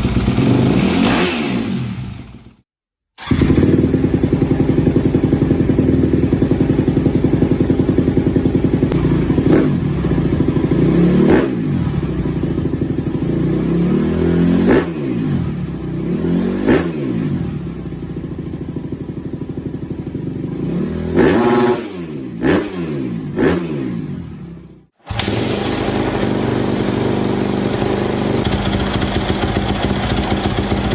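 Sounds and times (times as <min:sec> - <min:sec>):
motocross bike revving: 0:00.0 - 0:02.5, 0:03.2 - 0:17.7, 0:20.4 - 0:24.3, 0:25.1 - 0:30.9.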